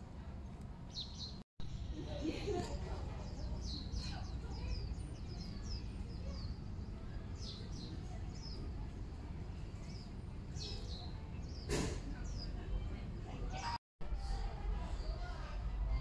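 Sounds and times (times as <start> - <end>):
small birds chirping: 0.4 - 13.8.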